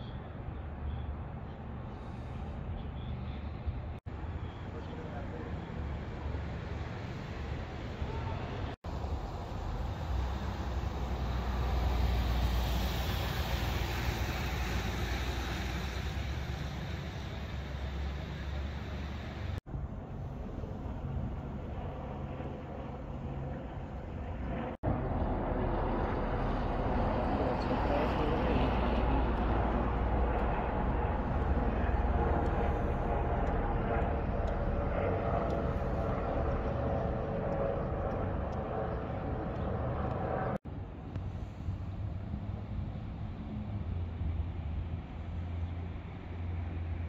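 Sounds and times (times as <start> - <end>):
outdoor rumble and hiss: 0.0 - 47.0.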